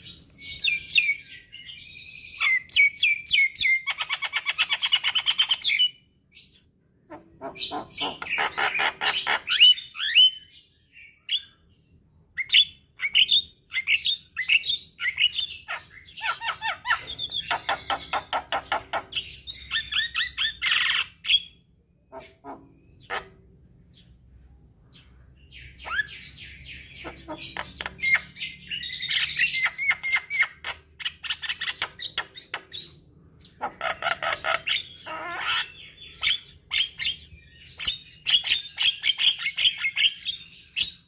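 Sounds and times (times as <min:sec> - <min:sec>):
bird singing chattering notes: 0:00.0 - 0:11.6, 0:12.4 - 0:24.2, 0:24.9 - 0:41.0.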